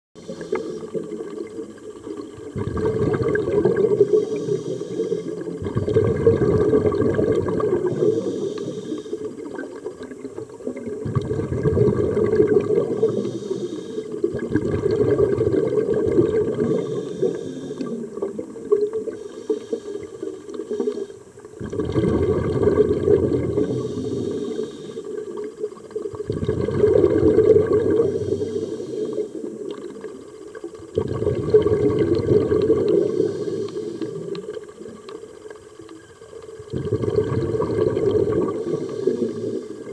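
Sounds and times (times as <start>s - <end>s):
underwater bubbles gurgling: 0.2s - 39.9s.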